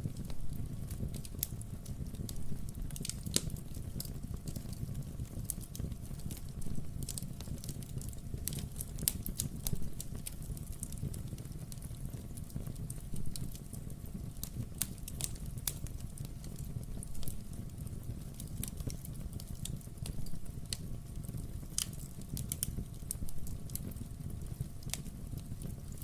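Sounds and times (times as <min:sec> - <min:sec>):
burning logs crackling and popping: 0:00.0 - 0:26.0
low fire rumble: 0:00.0 - 0:26.0.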